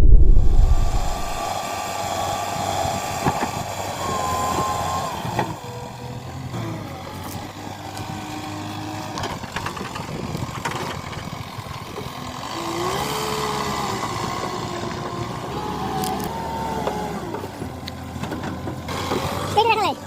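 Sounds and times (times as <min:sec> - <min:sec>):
backhoe diesel engine working: 0:00.1 - 0:20.0.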